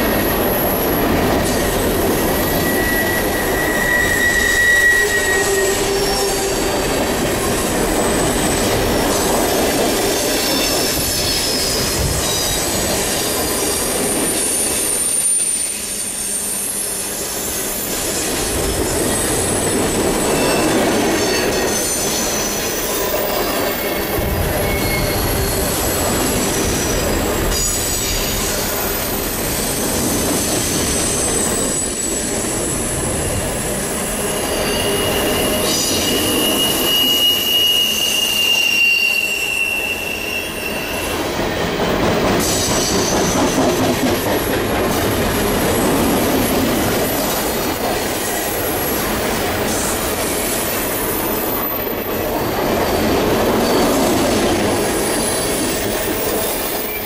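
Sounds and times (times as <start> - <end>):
freight train rumbling past: 0.0 - 57.0
train wheels squealing: 0.0 - 57.0.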